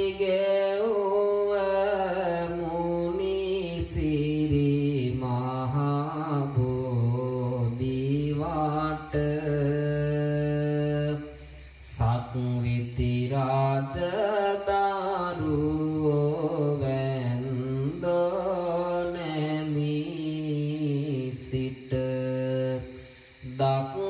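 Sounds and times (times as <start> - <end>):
monk chanting melodically: 0.0 - 24.0.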